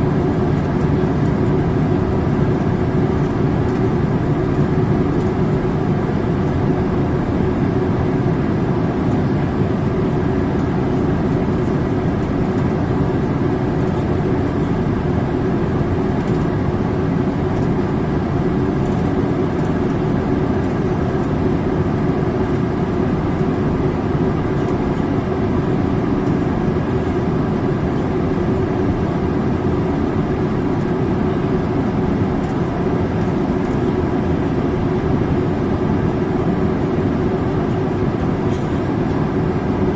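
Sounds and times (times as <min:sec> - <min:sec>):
airplane cabin engine rush: 0:00.0 - 0:39.9
constant hum: 0:00.0 - 0:39.9.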